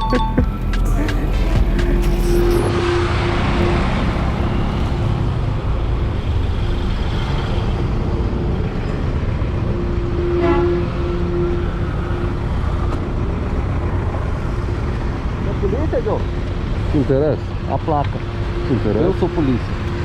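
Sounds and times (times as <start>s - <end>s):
motorcycle road and wind noise: 2.6s - 20.0s.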